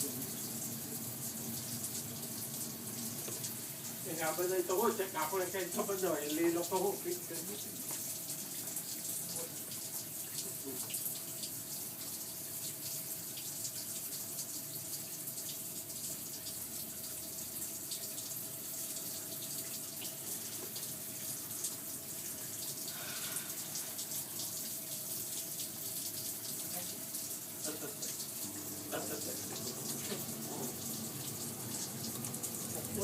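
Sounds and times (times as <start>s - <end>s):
water running from a tap: 0.0s - 33.0s.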